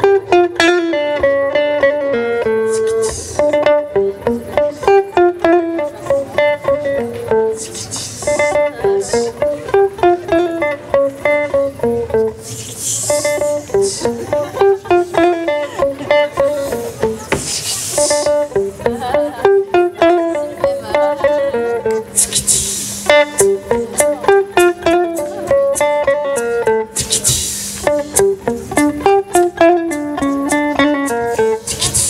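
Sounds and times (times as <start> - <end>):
klezmer band music: 0.0 - 32.0.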